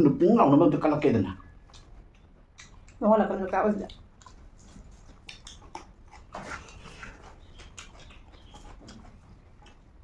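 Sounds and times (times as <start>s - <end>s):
wet chewing and lip smacks: 1.4s - 10.0s.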